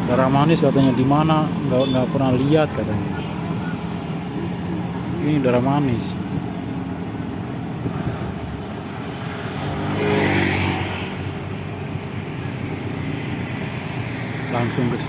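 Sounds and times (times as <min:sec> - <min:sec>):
steady traffic hum: 0:00.0 - 0:15.0.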